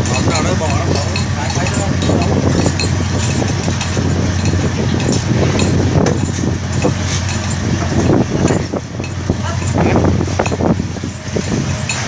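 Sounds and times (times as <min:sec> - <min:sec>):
clicks and clinks: 0:00.0 - 0:12.0
machinery humming: 0:00.0 - 0:12.0.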